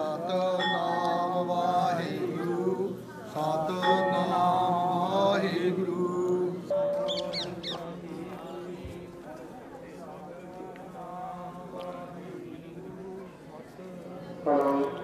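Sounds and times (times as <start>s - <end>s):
person singing a hymn: 0.0s - 15.0s.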